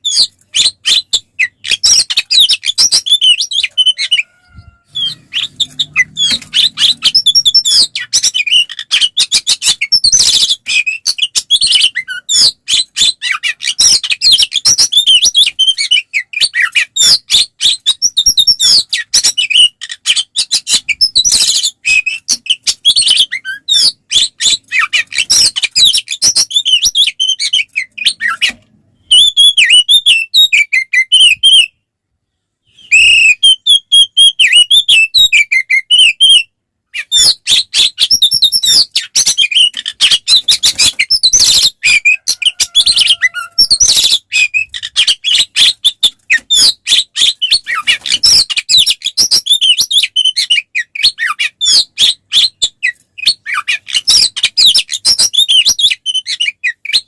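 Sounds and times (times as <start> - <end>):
bird singing chirps and trills: 0.0 - 31.7, 32.7 - 57.0.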